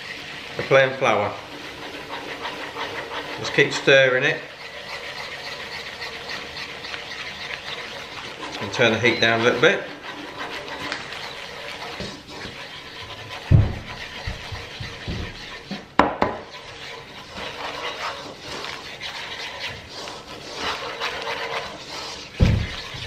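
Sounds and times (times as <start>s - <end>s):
wooden spoon scraping a pan: 0.0s - 23.0s.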